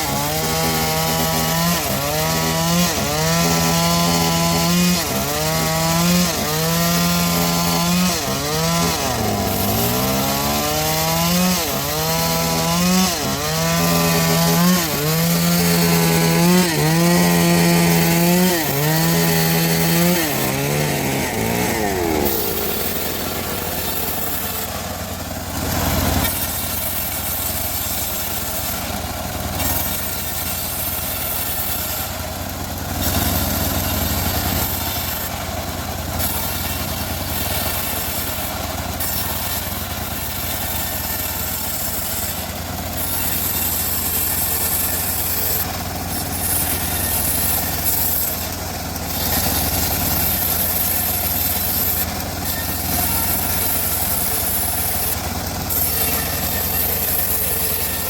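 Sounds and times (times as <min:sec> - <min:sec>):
bandsaw mill humming: 0:00.0 - 0:58.0
saw blade cutting wood: 0:00.0 - 0:58.0.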